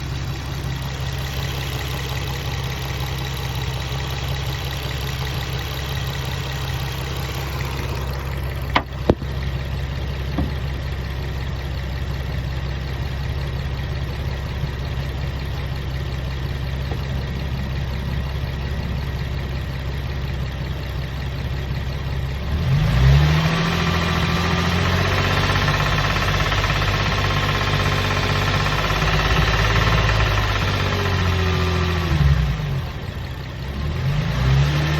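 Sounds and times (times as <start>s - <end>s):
car engine idling with rattle: 0.0s - 34.9s.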